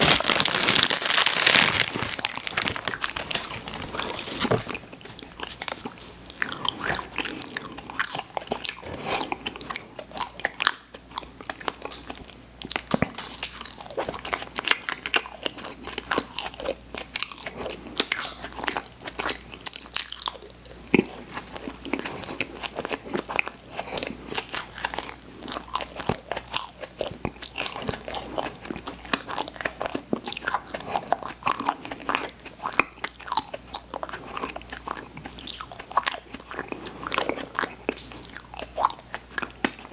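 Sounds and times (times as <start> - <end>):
chewing crunchy candy: 0.0 - 39.9.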